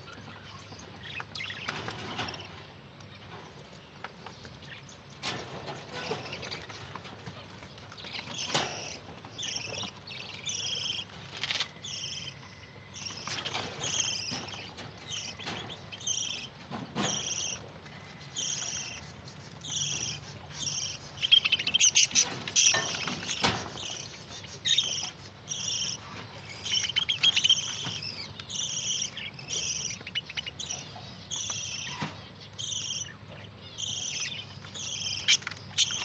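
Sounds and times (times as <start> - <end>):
budgerigars chirping: 0.0 - 2.6, 4.3 - 36.0.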